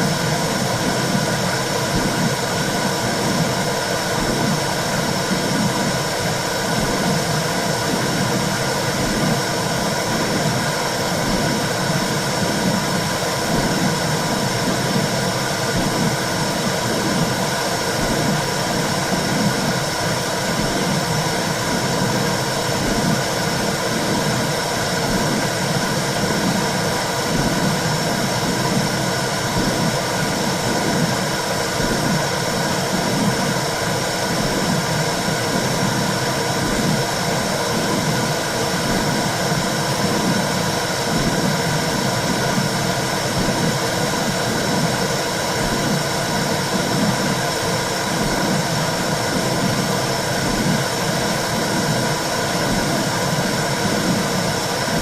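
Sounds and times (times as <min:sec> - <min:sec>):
low rhythmic pulse: 0:00.0 - 0:55.0.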